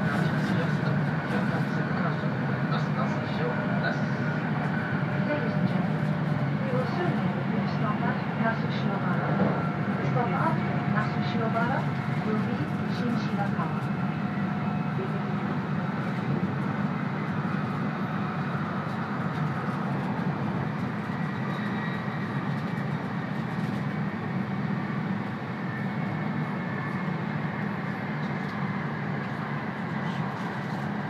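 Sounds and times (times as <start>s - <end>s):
train cabin low rumble: 0.0s - 31.0s.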